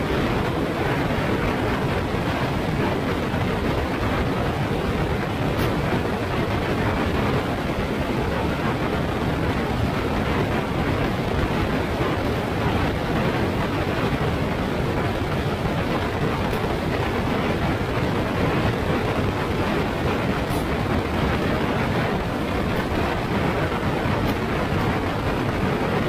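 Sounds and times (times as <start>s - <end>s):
vehicle road and wind noise: 0.0s - 26.0s.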